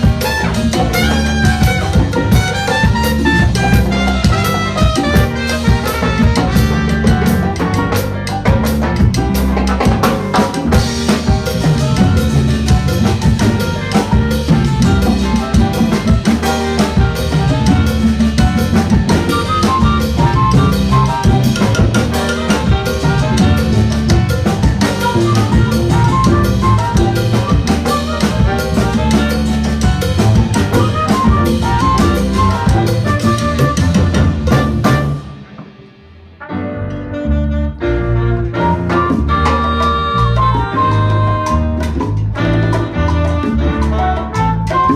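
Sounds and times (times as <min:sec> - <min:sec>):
brass and saxophones: 0:00.0 - 0:35.7, 0:36.4 - 0:44.9
bass: 0:00.0 - 0:44.9
congas and timbales: 0:00.0 - 0:44.9
drum kit: 0:00.0 - 0:44.9
piano: 0:00.0 - 0:44.9.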